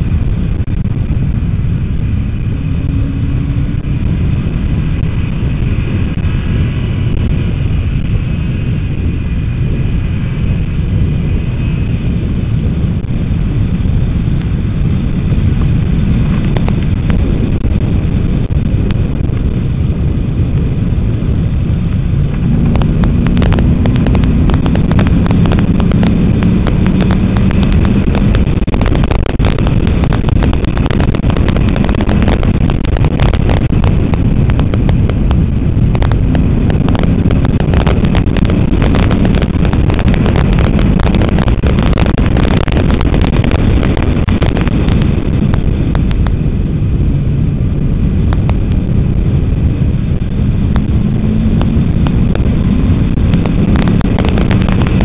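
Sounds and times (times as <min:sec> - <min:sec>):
car engine at speed: 0:00.0 - 0:55.0
wind buffeting: 0:00.0 - 0:55.0.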